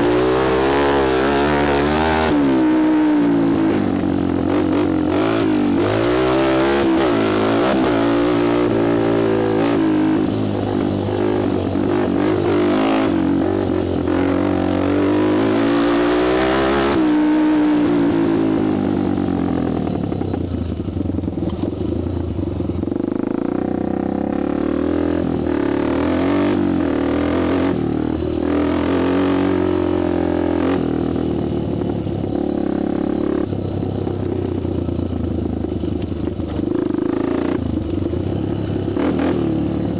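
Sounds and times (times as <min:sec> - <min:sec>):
quad engine revving: 0:00.0 - 0:20.2, 0:22.8 - 0:34.4, 0:36.4 - 0:39.9.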